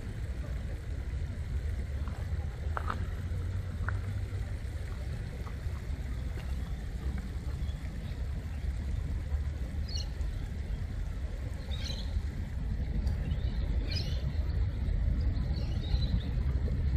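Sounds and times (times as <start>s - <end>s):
low outdoor rumble: 0.0s - 16.9s.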